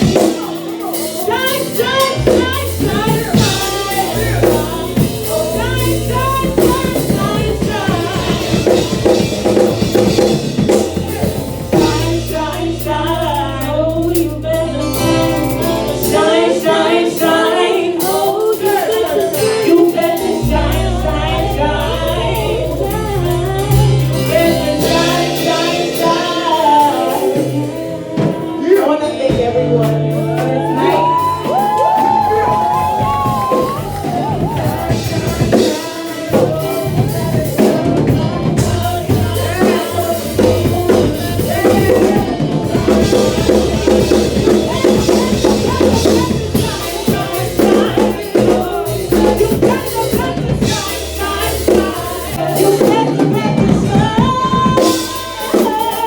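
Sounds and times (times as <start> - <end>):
song with singing bass and drums: 0.0 - 56.0.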